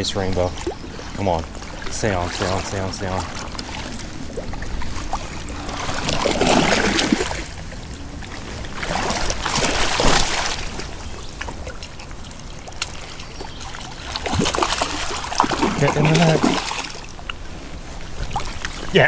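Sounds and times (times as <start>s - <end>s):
creek water splashing: 0.0s - 19.0s.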